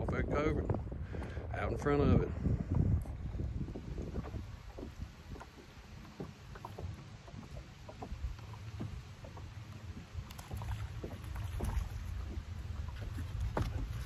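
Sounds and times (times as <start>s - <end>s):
low wind rumble: 0.0s - 14.0s
waves lapping against boat: 0.0s - 14.0s.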